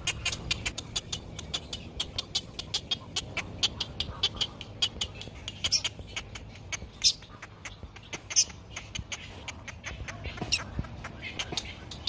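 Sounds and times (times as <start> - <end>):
bird chicks begging calls: 0.0 - 12.0.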